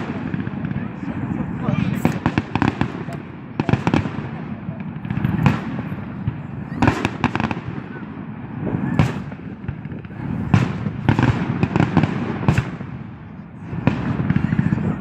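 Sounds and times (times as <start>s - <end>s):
fireworks bangs and cracks: 0.0s - 15.0s
rumble of distant bursts: 0.0s - 15.0s.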